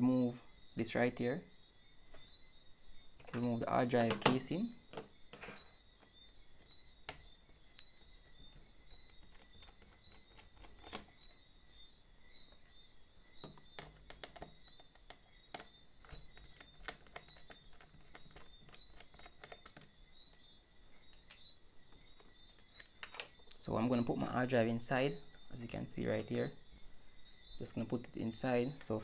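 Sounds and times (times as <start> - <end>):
faint high-pitched whine: 0.0 - 29.0.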